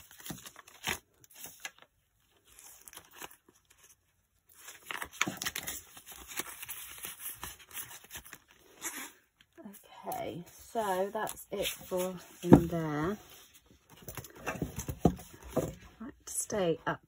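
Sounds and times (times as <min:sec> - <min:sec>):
plastic and banknotes crinkling: 0:00.0 - 0:14.9.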